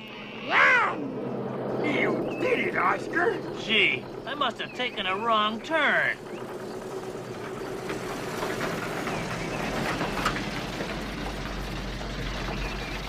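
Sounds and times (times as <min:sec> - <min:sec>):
road noise: 0:00.0 - 0:13.0
vehicle engine running: 0:00.0 - 0:13.0
small rattles: 0:01.4 - 0:13.0.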